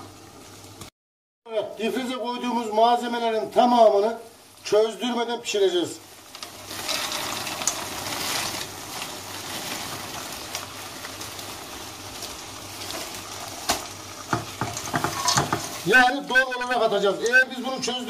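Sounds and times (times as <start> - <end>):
peas sizzling in hot oil: 0.0 - 0.9, 1.8 - 18.0.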